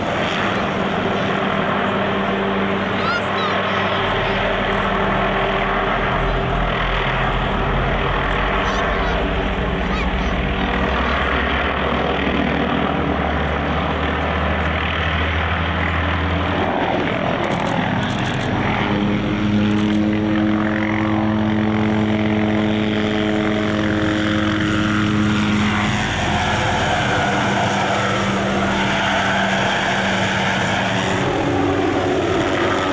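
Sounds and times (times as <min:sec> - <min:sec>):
helicopter rotor and engine: 0:00.0 - 0:32.9.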